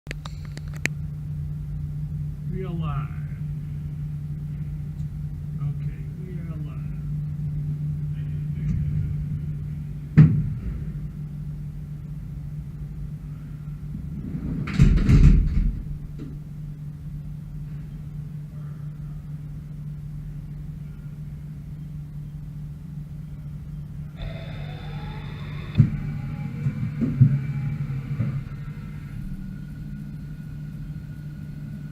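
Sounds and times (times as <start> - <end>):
mill machine humming: 0.1 - 31.9.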